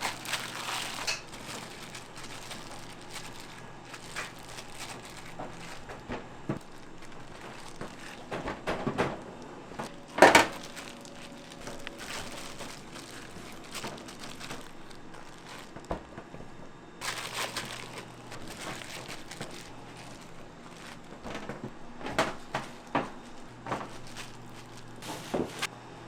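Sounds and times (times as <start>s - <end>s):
crinkling rustles: 0.0s - 25.7s
kitchen utensils clattering: 0.0s - 25.7s.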